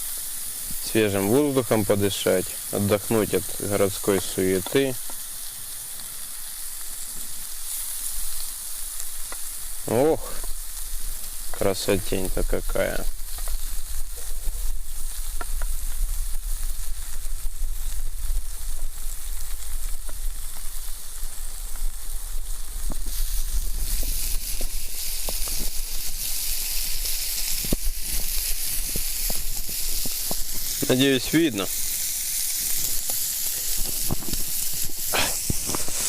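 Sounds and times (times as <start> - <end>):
food sizzling in frying pan: 0.0 - 36.0.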